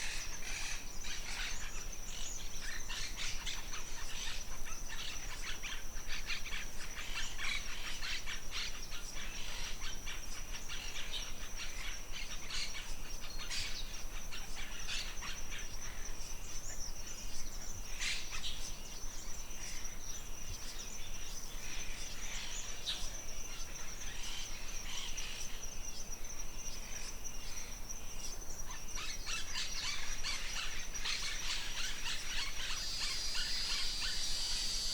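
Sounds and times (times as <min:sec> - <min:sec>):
birds chirping and calling: 0:00.0 - 0:34.9
high-pitched insect trill: 0:00.0 - 0:34.9.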